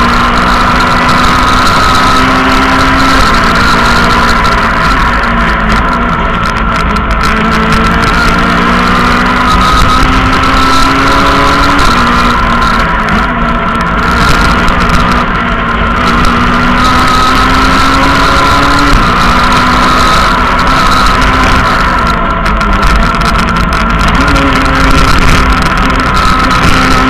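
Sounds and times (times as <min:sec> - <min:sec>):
rally car engine running hard: 0:00.0 - 0:27.0
road and wind noise: 0:00.0 - 0:27.0.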